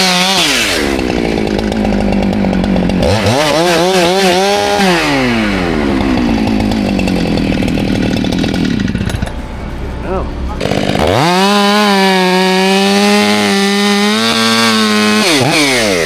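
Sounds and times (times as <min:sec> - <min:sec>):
chainsaw engine revving: 0:00.0 - 0:09.3, 0:10.5 - 0:16.0.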